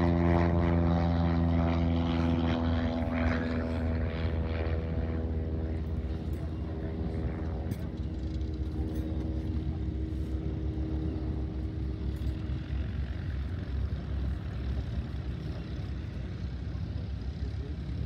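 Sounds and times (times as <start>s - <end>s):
distant propeller plane engines: 0.0s - 18.0s.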